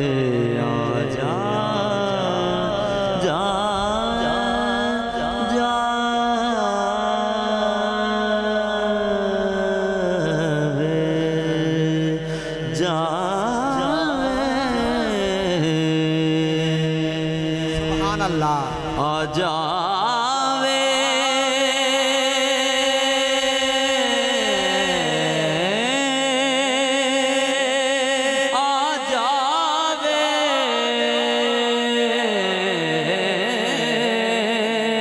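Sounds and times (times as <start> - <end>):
man singing melismatic passage: 0.0 - 35.0.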